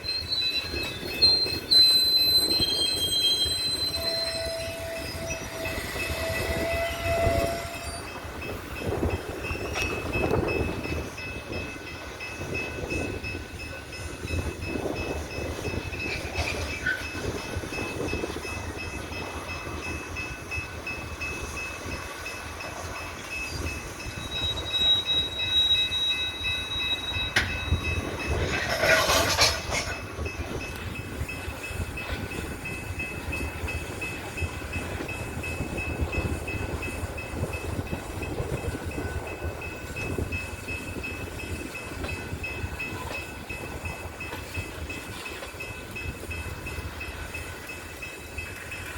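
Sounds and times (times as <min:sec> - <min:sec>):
faint rail clacking: 0:00.0 - 0:48.9
train railcars rumbling: 0:00.0 - 0:48.9.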